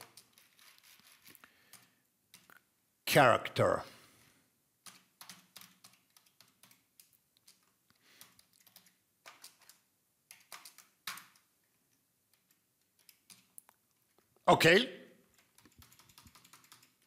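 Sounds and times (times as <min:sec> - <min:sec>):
computer keyboard typing: 0:00.0 - 0:02.6, 0:04.8 - 0:14.2, 0:15.2 - 0:17.0.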